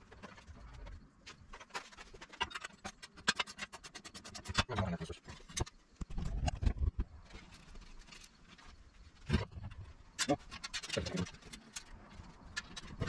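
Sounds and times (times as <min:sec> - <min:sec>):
metal panels clicking and rattling: 0:00.0 - 0:08.6, 0:09.2 - 0:13.0.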